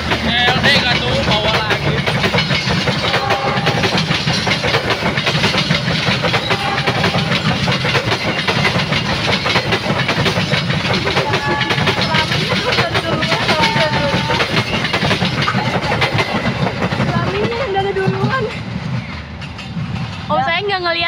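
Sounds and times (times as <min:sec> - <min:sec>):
train wheels rumbling on rails: 0:00.0 - 0:21.0
wheels clicking over rail joints: 0:00.0 - 0:21.0.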